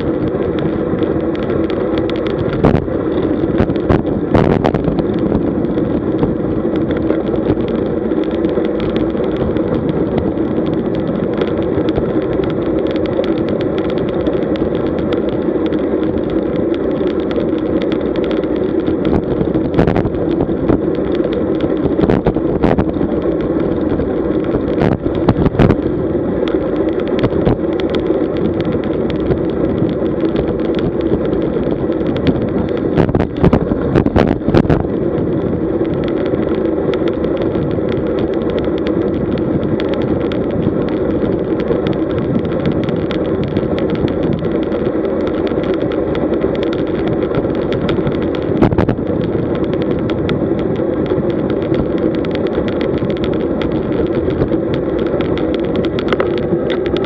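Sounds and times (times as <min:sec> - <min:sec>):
tyre hum on asphalt: 0:00.0 - 0:57.0
wind rushing over microphone: 0:00.0 - 0:57.0.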